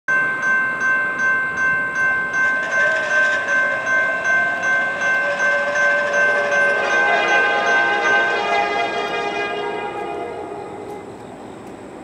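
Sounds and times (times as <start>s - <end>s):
crossing signal bell ringing: 0.1s - 11.7s.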